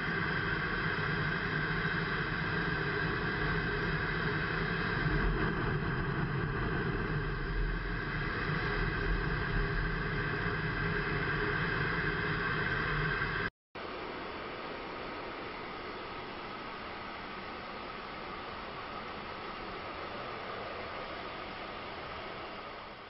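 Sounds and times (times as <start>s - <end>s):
jet engines and airflow rushing: 0.0s - 23.0s.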